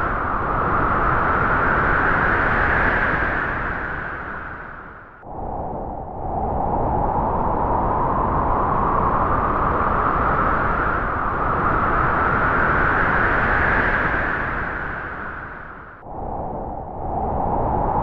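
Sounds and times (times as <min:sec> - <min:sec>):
wind gusting with whistle: 0:00.0 - 0:18.0.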